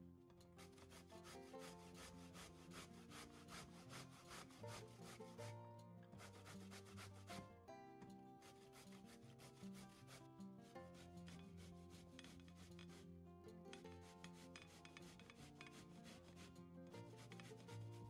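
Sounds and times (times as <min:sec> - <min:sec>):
squash grating on metal grater: 0:00.6 - 0:05.6, 0:06.2 - 0:07.4, 0:08.4 - 0:13.1, 0:13.7 - 0:18.0.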